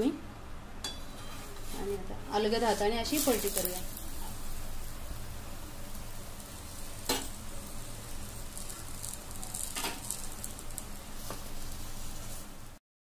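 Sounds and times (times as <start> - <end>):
flatbread sizzling on a griddle: 0.9 - 12.8.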